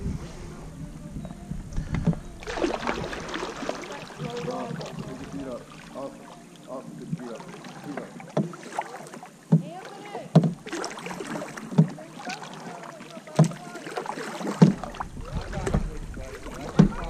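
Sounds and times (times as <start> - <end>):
water and hull noise: 0.0 - 17.0
paddle knock or splash: 1.9 - 17.0.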